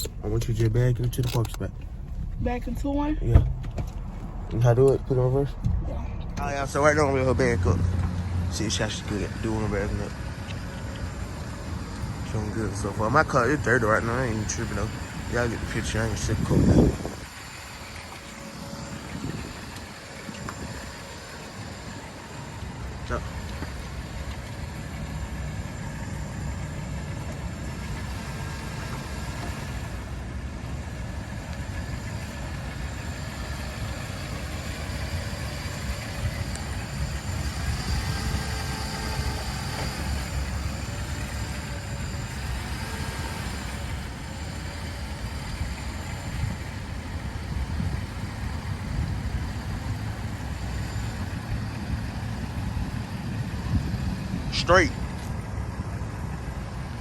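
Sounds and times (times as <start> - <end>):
car engine low rumble: 0.0 - 57.0.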